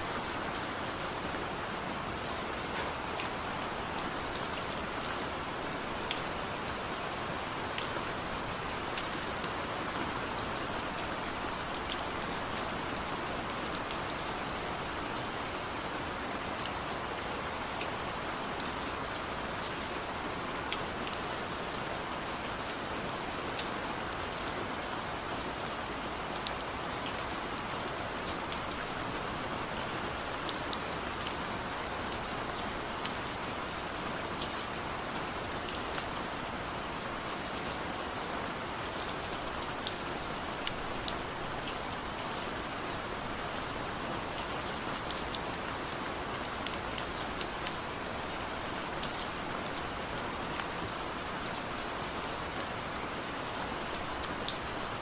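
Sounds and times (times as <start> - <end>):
rain falling: 0.0 - 55.0
raindrops pattering on a surface: 0.1 - 55.0.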